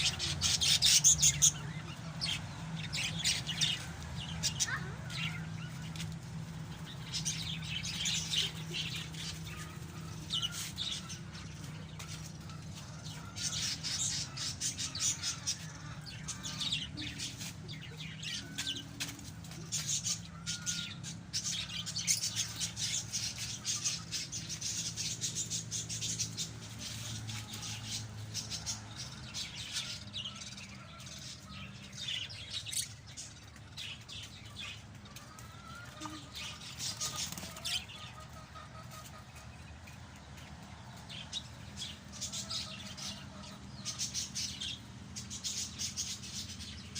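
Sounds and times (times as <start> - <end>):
lovebirds chirping: 0.0 - 46.9.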